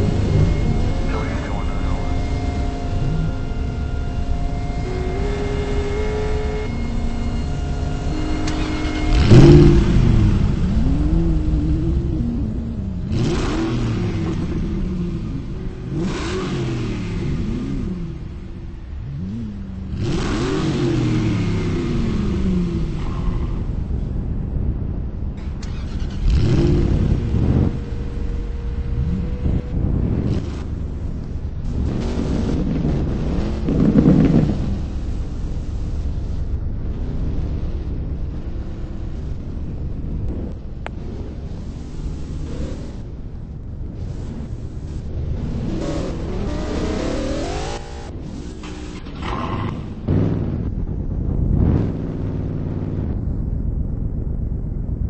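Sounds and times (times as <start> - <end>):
wind buffeting microphone: 0.0 - 49.0, 49.8 - 55.0
car engine revving: 0.0 - 53.6.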